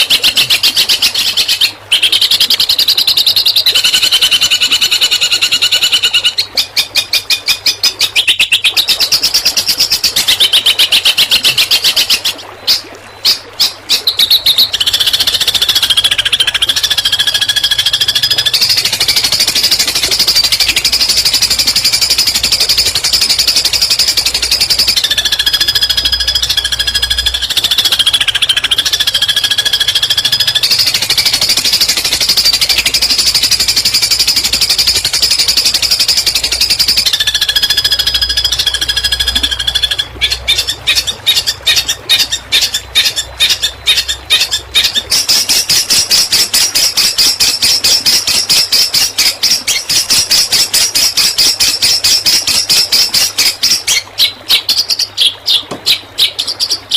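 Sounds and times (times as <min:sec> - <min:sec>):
shrike rattling song: 0:00.0 - 0:56.9.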